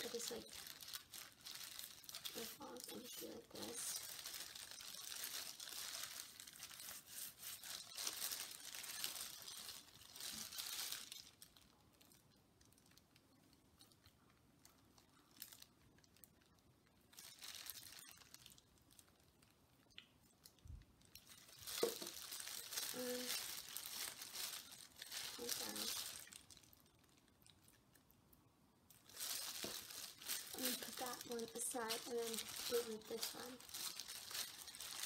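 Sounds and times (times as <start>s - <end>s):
plastic gloves crinkling: 0.0s - 35.0s.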